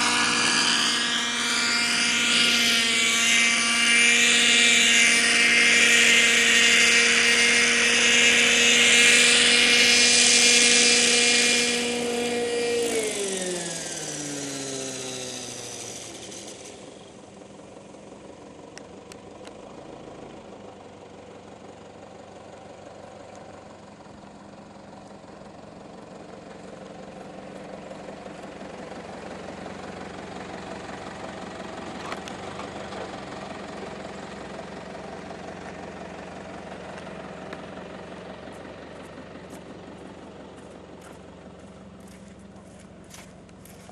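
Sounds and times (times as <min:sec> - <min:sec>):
rc helicopter whining: 0:00.0 - 0:42.8.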